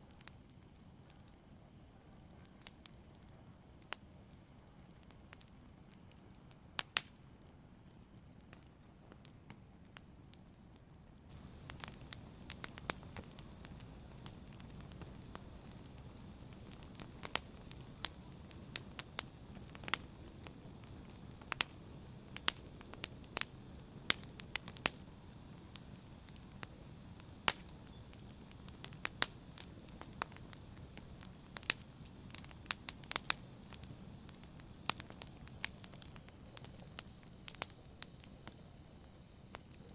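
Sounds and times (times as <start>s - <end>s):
fire crackling and popping: 0.0s - 39.9s
fire hissing: 0.0s - 39.9s.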